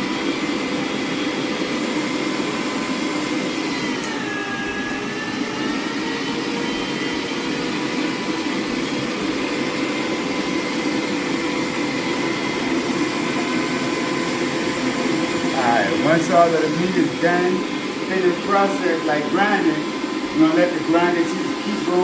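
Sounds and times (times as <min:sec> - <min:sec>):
electric meat grinder whining: 0:00.0 - 0:22.0.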